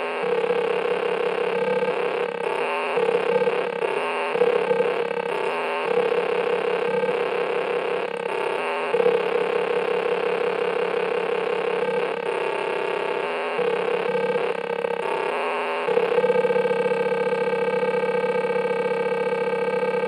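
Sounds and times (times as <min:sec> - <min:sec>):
distorted noise music: 0:00.0 - 0:20.0.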